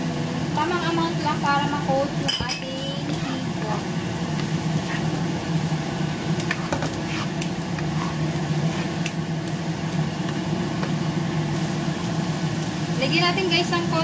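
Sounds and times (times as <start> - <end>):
low machine hum: 0.0 - 14.0
shrimp sizzling in a pan: 0.1 - 14.0.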